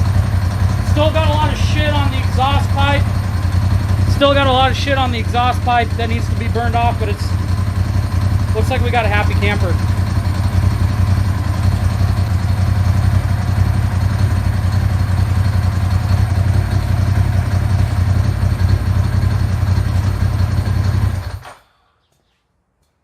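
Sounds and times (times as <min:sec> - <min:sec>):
motorcycle engine idling: 0:00.0 - 0:21.4.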